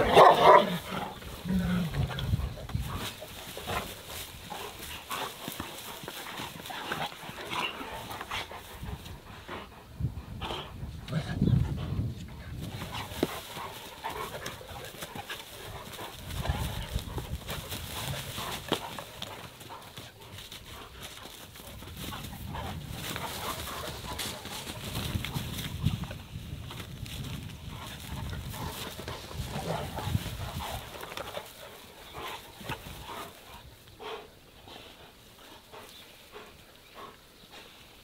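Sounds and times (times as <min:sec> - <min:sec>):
paws scuffling in grass: 0:00.0 - 0:09.9, 0:12.0 - 0:38.0
dogs growling: 0:00.0 - 0:11.7, 0:12.7 - 0:25.6, 0:27.7 - 0:37.2.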